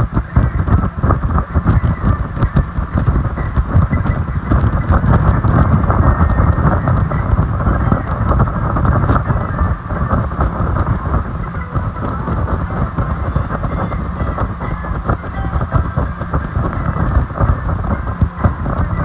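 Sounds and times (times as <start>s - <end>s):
boat engine rumble: 0.0s - 19.0s
hull running across water: 0.0s - 19.0s
wind buffeting microphone: 0.0s - 19.0s.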